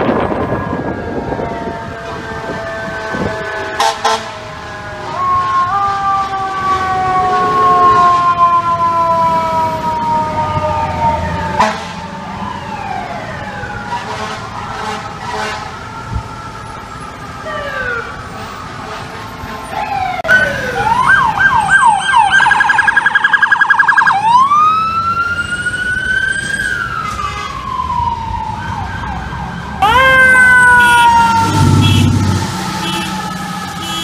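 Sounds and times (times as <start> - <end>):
fire engine siren wailing: 0.0 - 34.0
street traffic: 0.0 - 34.0.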